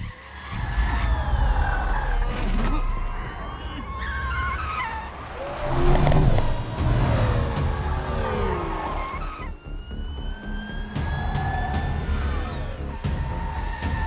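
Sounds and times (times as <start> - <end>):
deep continuous rumble: 0.0 - 13.8
tyres squealing: 0.0 - 14.0.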